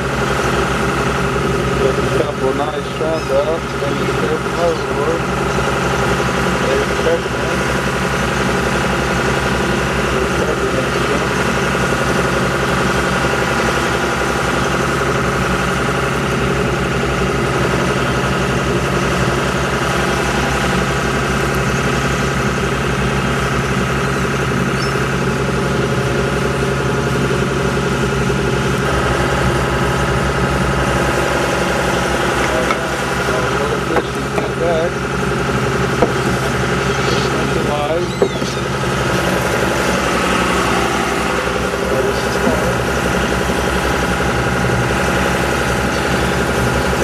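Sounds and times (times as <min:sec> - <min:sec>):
boat engine droning: 0:00.0 - 0:47.0.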